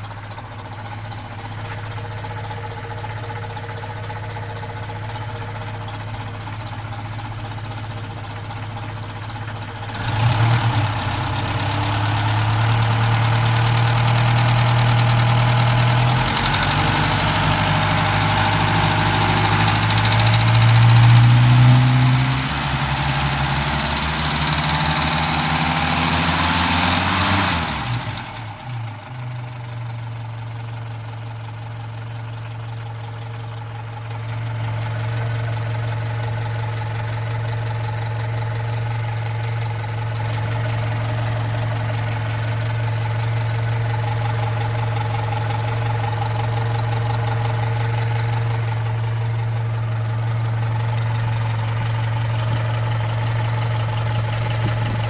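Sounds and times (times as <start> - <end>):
car engine revving and idling: 0.0 - 55.0.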